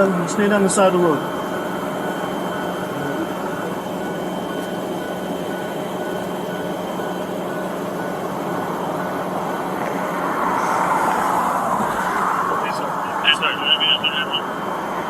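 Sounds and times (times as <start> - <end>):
engines idling: 0.0 - 15.0
road traffic: 0.0 - 15.0
vehicle passing: 0.0 - 15.0.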